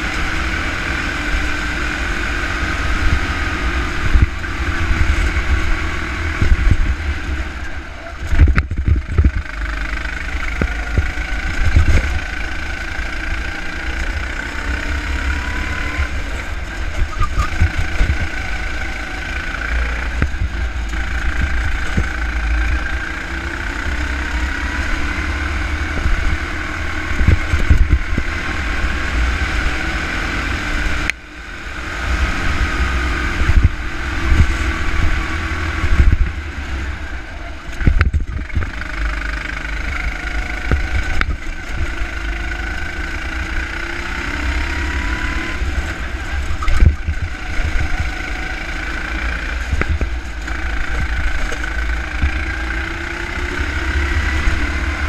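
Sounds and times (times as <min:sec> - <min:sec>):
go-kart engine running hard: 0:00.0 - 0:55.0
wind rumble on microphone: 0:00.0 - 0:55.0.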